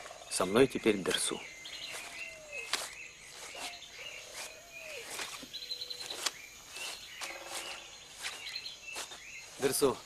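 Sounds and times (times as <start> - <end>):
birds calling and trilling: 0.0 - 10.0
footsteps rustling through undergrowth: 0.0 - 10.0.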